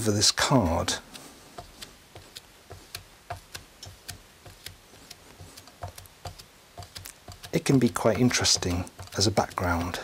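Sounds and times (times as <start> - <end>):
sponge dabbing on wax: 0.0 - 10.0.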